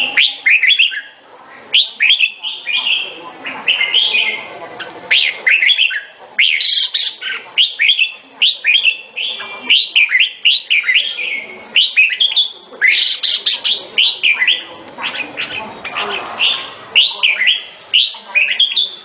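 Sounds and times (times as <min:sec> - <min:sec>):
bird singing whistled notes: 0:00.0 - 0:03.1, 0:05.1 - 0:15.6, 0:16.4 - 0:19.0.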